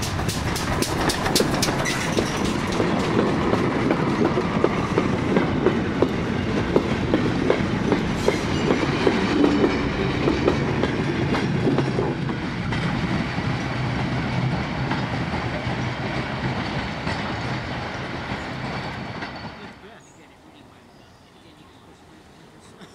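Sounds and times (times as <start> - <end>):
train wheels clacking over rail joints: 0.0 - 19.9
freight train rumble: 0.0 - 22.9.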